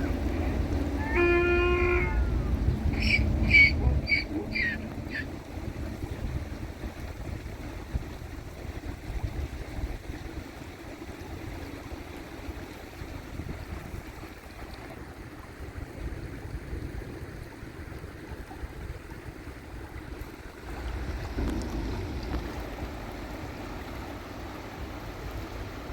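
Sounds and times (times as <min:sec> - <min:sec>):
flowing river water: 0:00.0 - 0:25.9
wind rumbling on microphone: 0:00.0 - 0:25.9.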